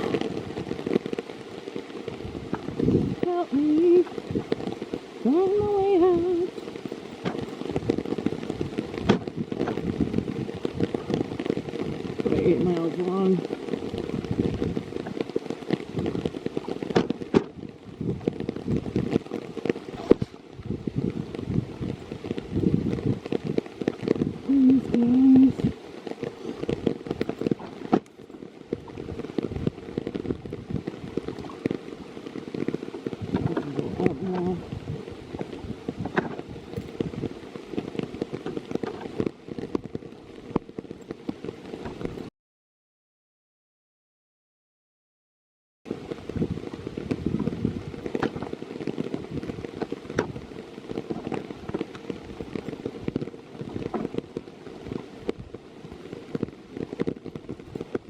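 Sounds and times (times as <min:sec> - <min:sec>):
rain pattering: 0:00.0 - 0:42.3, 0:45.9 - 0:58.0.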